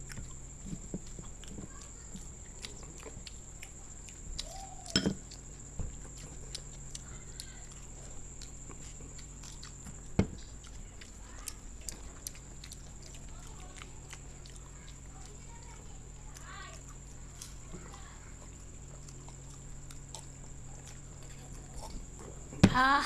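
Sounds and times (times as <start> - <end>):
lip smacks: 0.0 - 22.4
people chewing crunchy food: 0.0 - 23.0.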